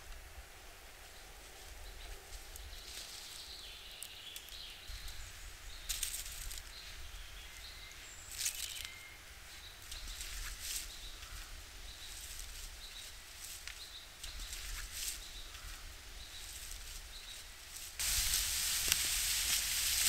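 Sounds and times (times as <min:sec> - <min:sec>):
faint outdoor background: 0:00.0 - 0:20.0
dry sticks rustling and scraping: 0:01.0 - 0:07.0, 0:07.9 - 0:20.0.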